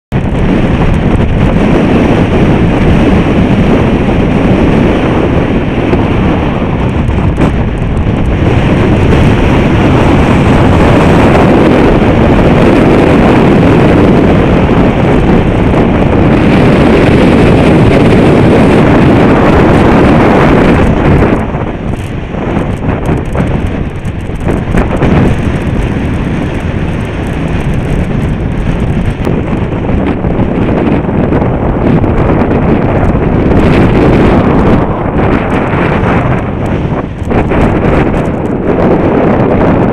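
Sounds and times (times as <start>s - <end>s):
wind buffeting microphone: 0.1s - 39.9s.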